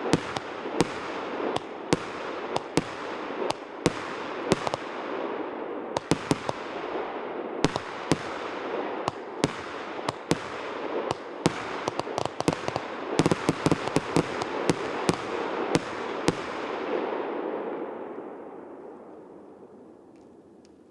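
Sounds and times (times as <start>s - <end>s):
fireworks crackle: 0.0s - 17.1s
fireworks bangs: 0.0s - 19.9s.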